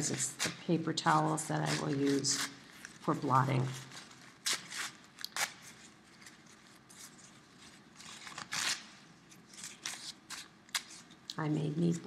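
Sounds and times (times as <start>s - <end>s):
paper towel tearing: 0.0s - 11.1s.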